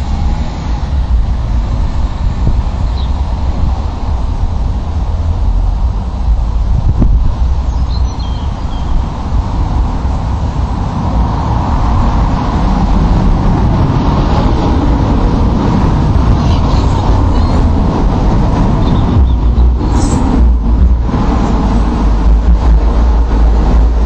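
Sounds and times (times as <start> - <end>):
motor vehicle running: 0.0 - 24.0.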